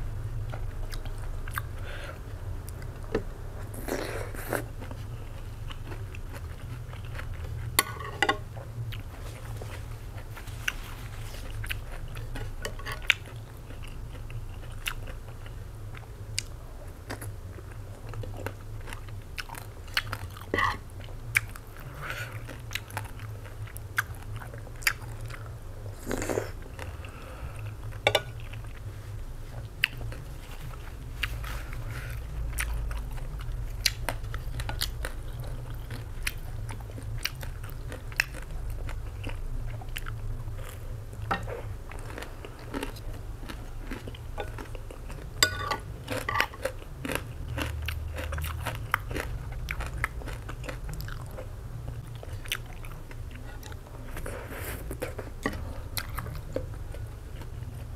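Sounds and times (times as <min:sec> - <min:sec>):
steady low hum: 0:00.0 - 0:57.9
close-up chewing: 0:02.7 - 0:57.9.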